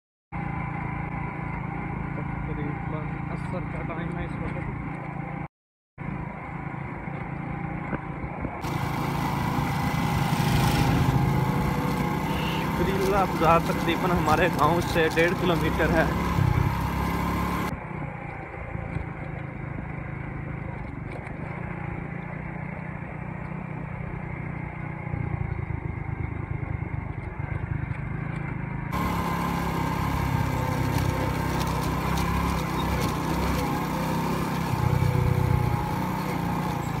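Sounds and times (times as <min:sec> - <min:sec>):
motorcycle engine drone: 0:00.3 - 0:37.0.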